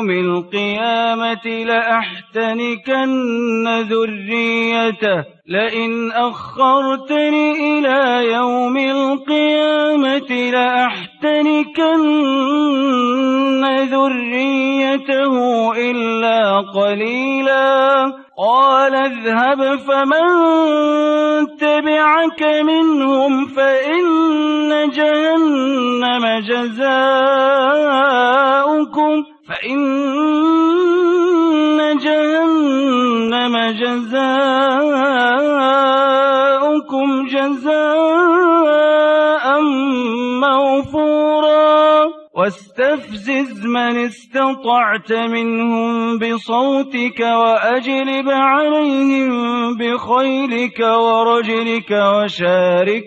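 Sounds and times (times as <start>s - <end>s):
man chanting melodically: 0.0s - 53.0s.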